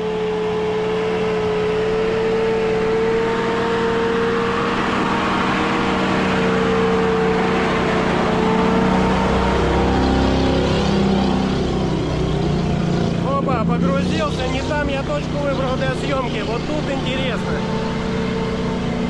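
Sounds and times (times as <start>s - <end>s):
steady whine: 0.0s - 19.0s
truck engine pulling hard: 0.0s - 19.0s.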